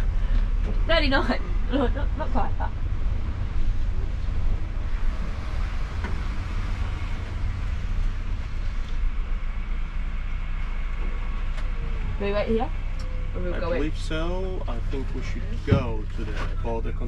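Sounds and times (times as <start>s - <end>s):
coach engine rumbling: 0.0s - 17.0s.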